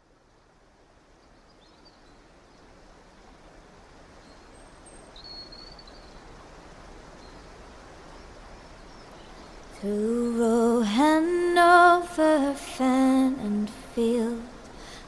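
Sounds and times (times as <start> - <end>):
wind and water rushing: 0.0 - 15.0.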